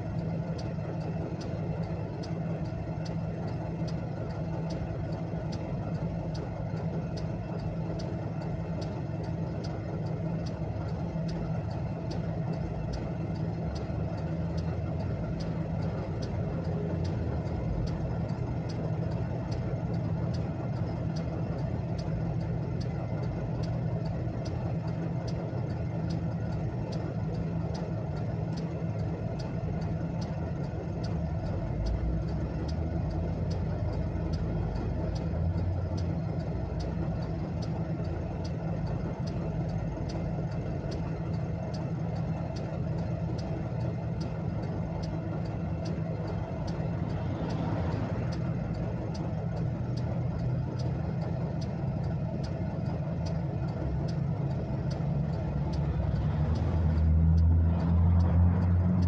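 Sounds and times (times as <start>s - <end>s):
car engine idling: 0.0s - 59.0s
hazard flasher relay ticking: 0.0s - 59.0s.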